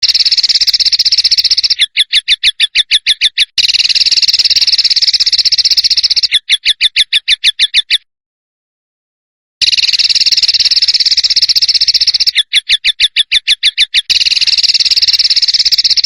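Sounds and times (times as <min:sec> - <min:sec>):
songbird trilling: 0:00.0 - 0:08.0, 0:09.6 - 0:16.0.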